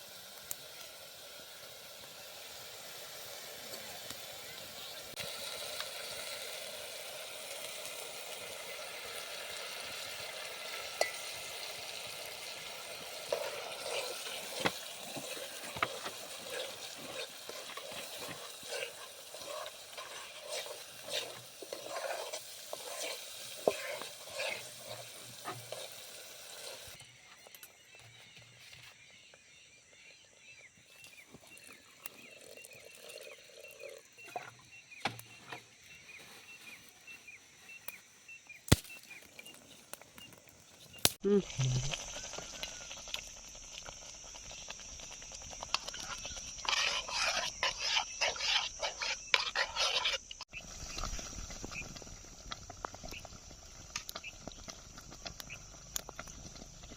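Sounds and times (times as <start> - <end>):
okra sizzling in a pan: 0.0 - 27.0, 35.3 - 56.9.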